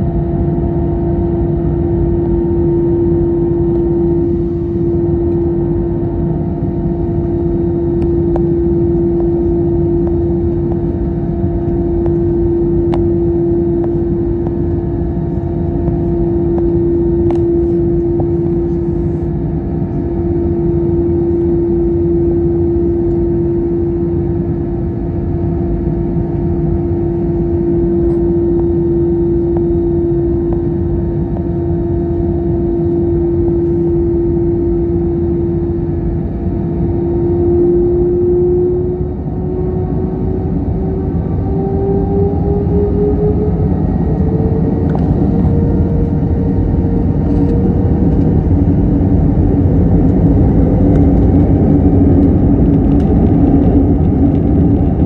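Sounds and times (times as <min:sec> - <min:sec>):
jet engine and airflow rush: 0:00.0 - 0:55.0.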